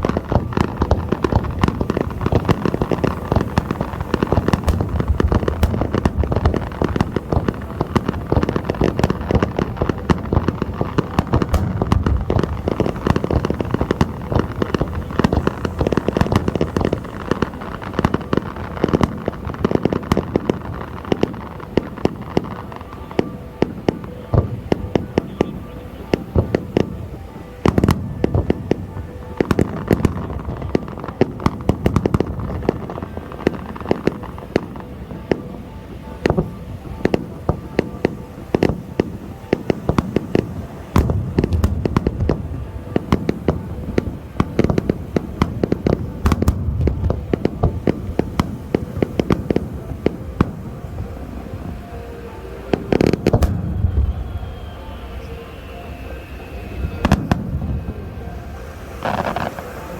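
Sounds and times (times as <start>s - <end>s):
deep fireworks booms: 0.0s - 59.9s
fireworks bangs and crackles: 0.0s - 59.9s.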